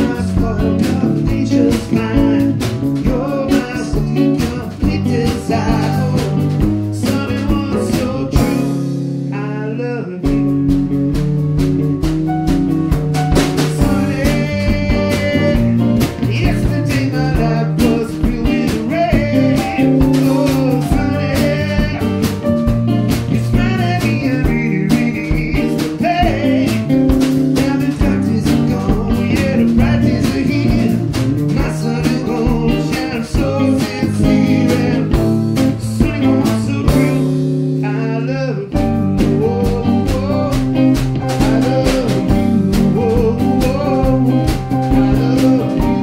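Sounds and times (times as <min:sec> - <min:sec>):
drum kit: 0:00.0 - 0:46.0
electric bass: 0:00.0 - 0:46.0
electric guitar: 0:00.0 - 0:46.0.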